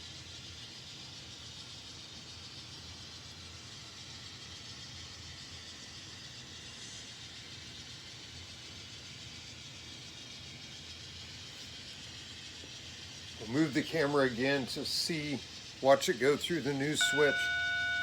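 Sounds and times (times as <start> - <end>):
model train running on track: 0.0 - 18.0.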